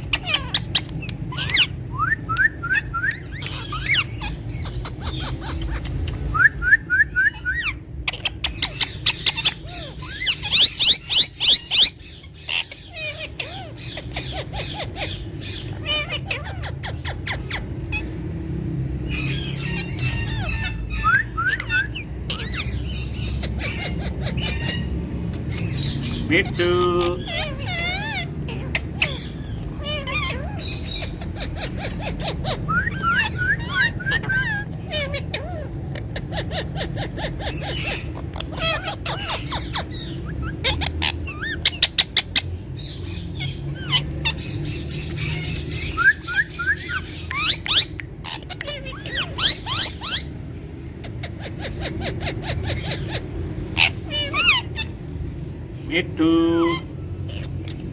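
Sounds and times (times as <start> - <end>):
parrots chirping and squawking: 0.0 - 57.9
steady low hum: 0.0 - 57.9.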